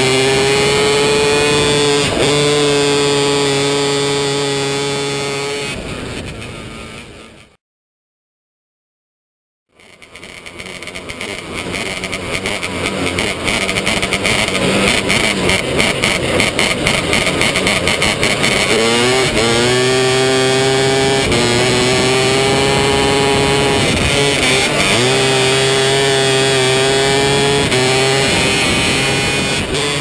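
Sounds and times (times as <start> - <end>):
racing car engine at high revs: 0.0 - 7.5, 9.8 - 30.0.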